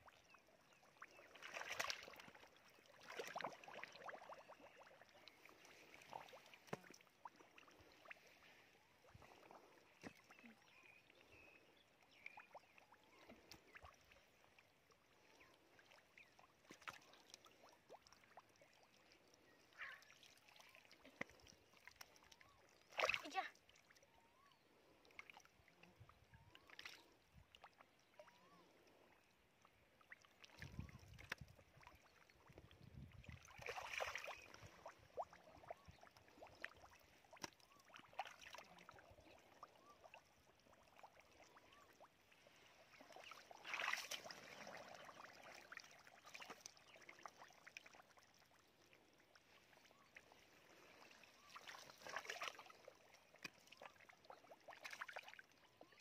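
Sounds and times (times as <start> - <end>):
sloshing in shallow water: 0.0 - 56.0.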